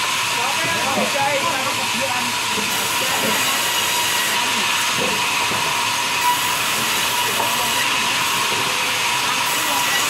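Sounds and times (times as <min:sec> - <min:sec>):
band saw running: 0:00.0 - 0:10.0.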